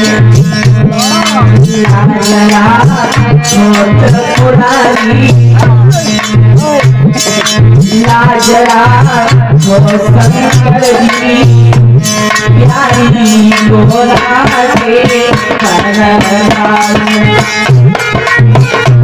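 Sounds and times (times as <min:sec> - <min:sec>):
hand drum beat: 0:00.0 - 0:19.0
wavering instrumental melody: 0:00.0 - 0:19.0.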